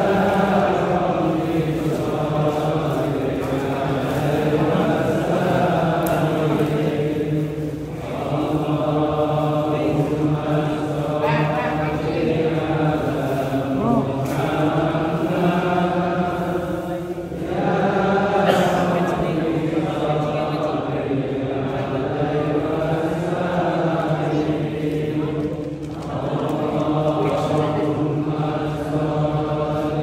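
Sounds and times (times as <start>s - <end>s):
men chanting in unison: 0.0s - 30.0s.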